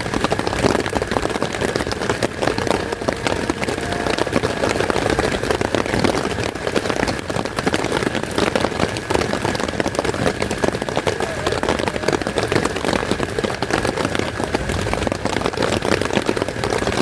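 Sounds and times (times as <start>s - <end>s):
heavy rain falling: 0.0s - 17.0s
raindrops hitting a surface: 0.0s - 17.0s.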